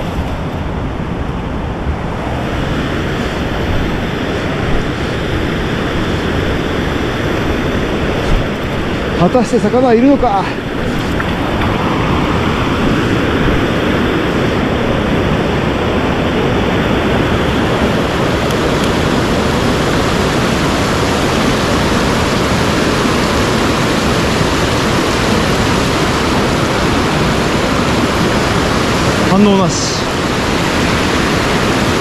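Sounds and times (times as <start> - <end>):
stream water rushing over rocks: 0.0 - 32.0.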